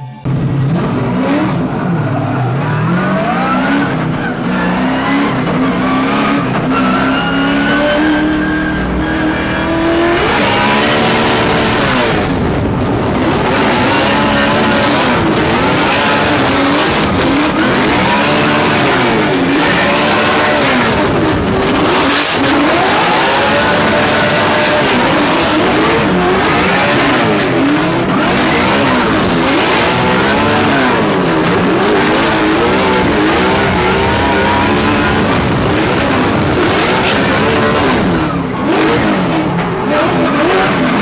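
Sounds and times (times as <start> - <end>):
car engine revving: 0.2 - 41.0.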